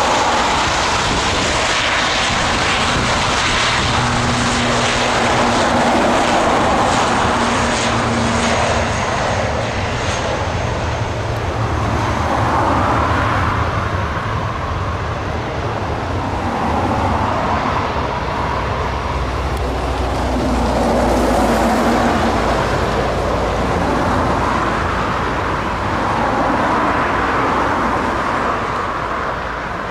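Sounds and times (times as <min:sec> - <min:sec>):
jet airliner engines roaring: 0:00.0 - 0:29.9.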